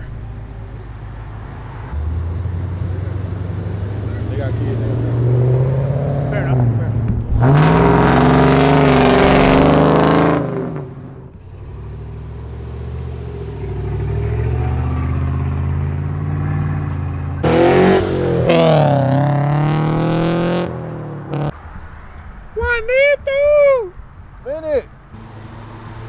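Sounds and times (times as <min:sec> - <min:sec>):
car engine revving and idling: 0:00.0 - 0:22.8, 0:23.8 - 0:26.0.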